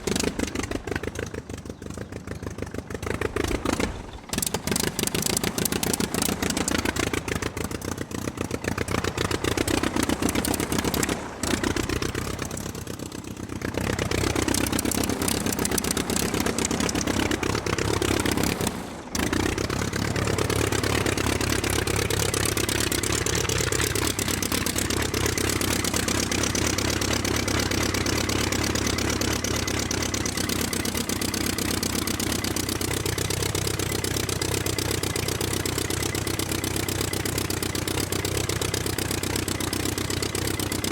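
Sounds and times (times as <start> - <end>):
piston engine revving: 0.0 - 2.0, 2.8 - 40.9.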